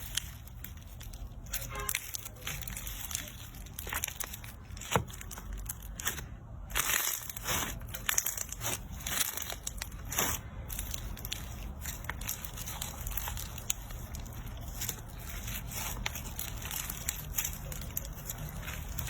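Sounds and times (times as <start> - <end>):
slime squished by hand: 0.0 - 19.0.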